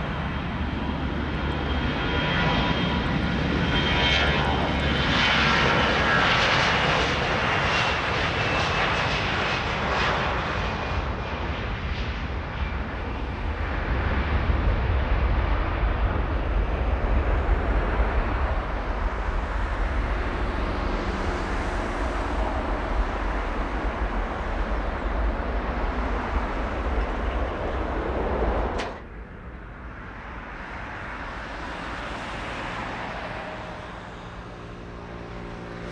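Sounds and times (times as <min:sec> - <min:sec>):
jet engine low rumble: 0:00.0 - 0:35.9
jet engine whine: 0:00.0 - 0:35.9.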